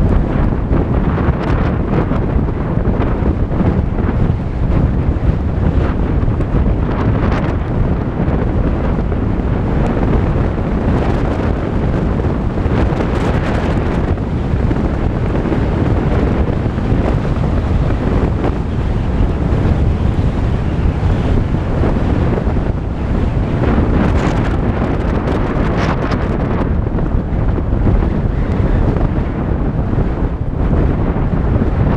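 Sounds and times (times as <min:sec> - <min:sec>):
car tyres on dirt road: 0:00.0 - 0:31.9
wind noise on microphone: 0:00.0 - 0:31.9.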